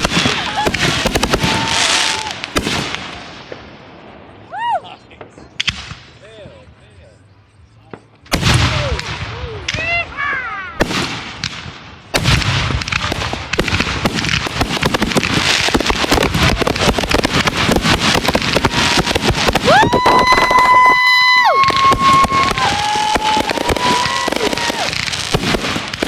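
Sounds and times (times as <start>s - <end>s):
fireworks banging: 0.0s - 4.0s, 7.9s - 26.0s
fireworks crackling: 0.0s - 6.4s, 7.9s - 26.0s.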